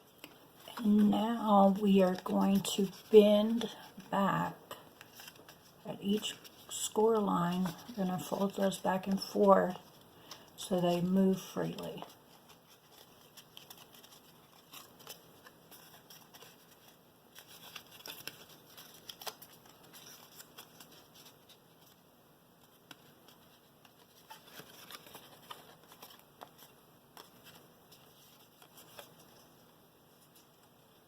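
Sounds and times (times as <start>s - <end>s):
paper card rustling: 0.0s - 10.5s, 11.3s - 22.0s, 22.6s - 30.8s.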